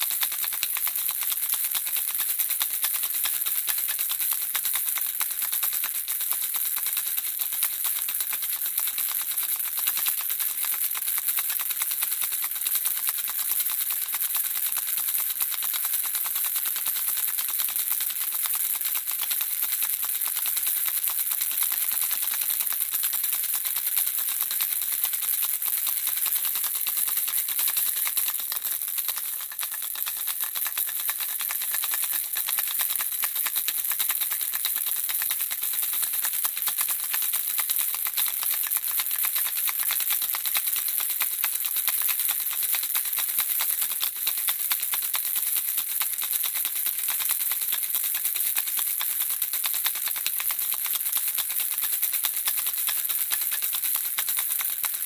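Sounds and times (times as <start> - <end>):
baby rattle shaking: 0.0 - 55.0.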